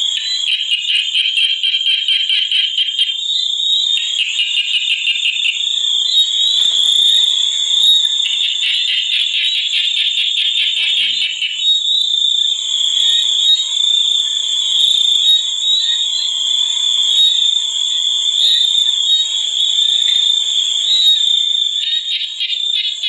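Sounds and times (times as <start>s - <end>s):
insects and frogs droning: 0.0s - 23.0s.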